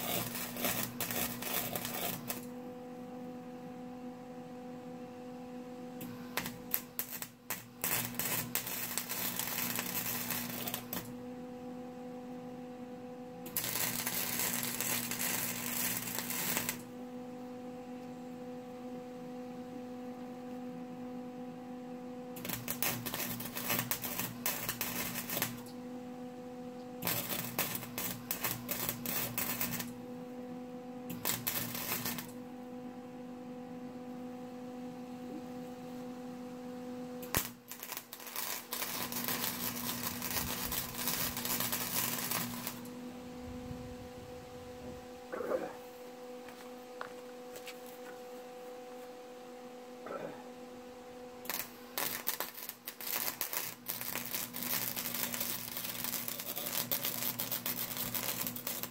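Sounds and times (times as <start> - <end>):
arc welder crackling and sizzling: 0.0 - 58.9
steady hum: 0.0 - 58.9.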